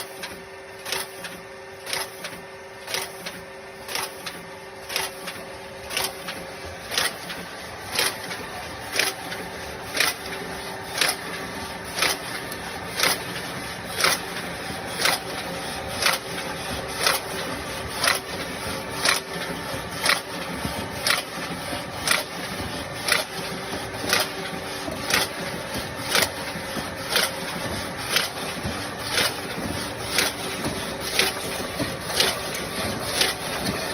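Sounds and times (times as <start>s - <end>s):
sharp machine clack: 0.0s - 33.9s.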